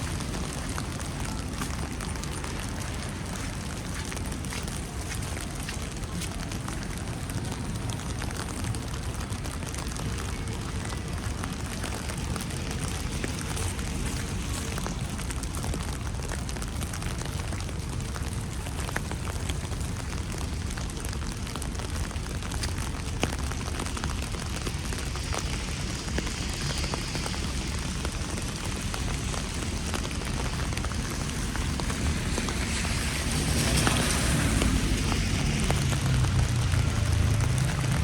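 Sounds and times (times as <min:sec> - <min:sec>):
broad rush of noise: 0:00.0 - 0:38.0
wet snow and rain falling: 0:00.0 - 0:38.0.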